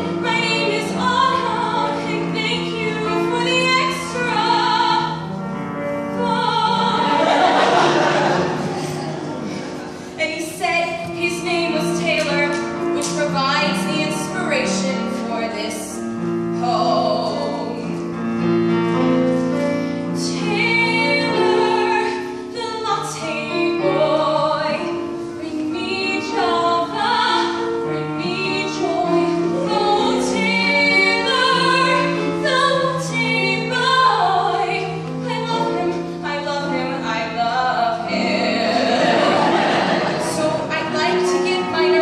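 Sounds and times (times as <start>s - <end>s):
piano accompaniment: 0.0s - 42.0s.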